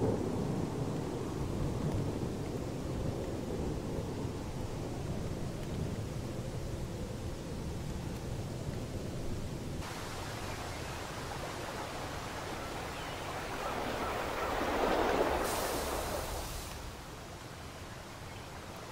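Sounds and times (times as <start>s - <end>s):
rain hissing: 0.0s - 18.9s.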